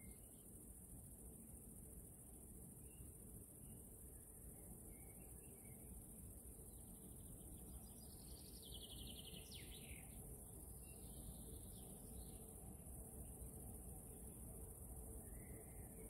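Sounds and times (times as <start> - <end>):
outdoor rumble and hiss: 0.0 - 16.0
songbirds singing: 2.8 - 16.0.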